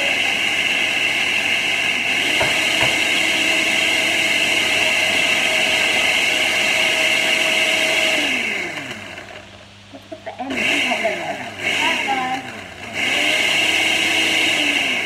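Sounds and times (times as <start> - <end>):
blender motor winding down: 0.0 - 9.4, 10.4 - 15.0
blender running: 0.0 - 9.5, 10.4 - 15.0.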